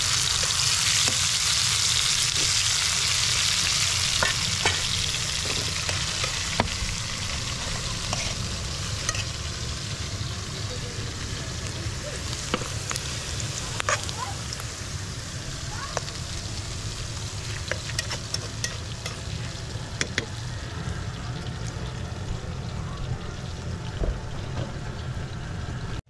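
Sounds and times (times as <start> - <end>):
chicken sizzling in hot oil: 0.0 - 26.0
onions frying in a pot: 0.0 - 26.0.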